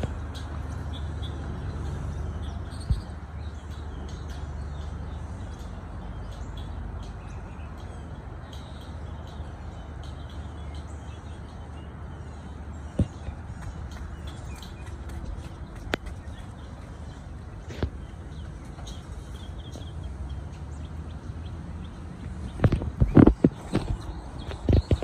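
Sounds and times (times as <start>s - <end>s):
birds chirping: 0.0s - 25.0s
truck engine running: 0.0s - 25.0s.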